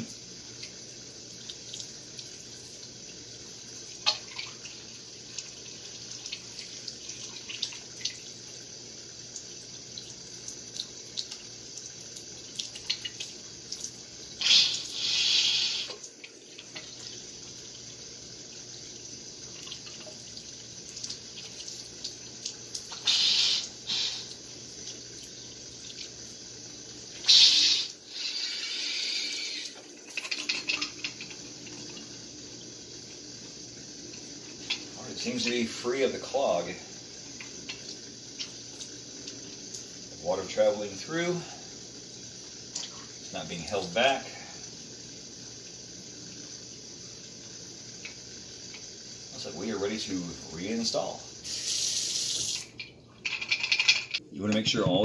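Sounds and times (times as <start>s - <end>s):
faucet running into sink: 0.0s - 54.2s.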